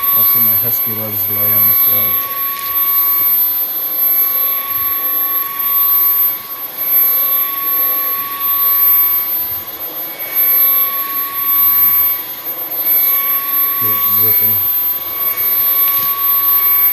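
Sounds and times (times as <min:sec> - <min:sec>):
stick vacuum motor whining: 0:00.0 - 0:16.9.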